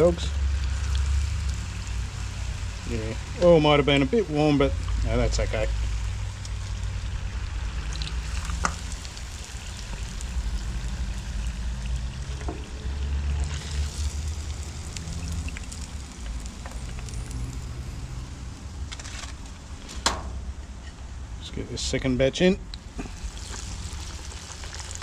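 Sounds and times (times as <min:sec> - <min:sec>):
fish deep-frying in oil: 0:00.0 - 0:18.9, 0:22.7 - 0:25.0.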